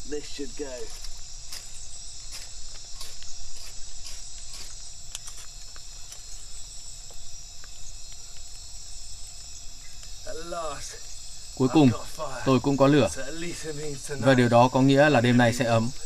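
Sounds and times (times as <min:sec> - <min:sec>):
kindling fire crackling: 0:00.0 - 0:14.4
crickets and night insects: 0:00.0 - 0:16.0.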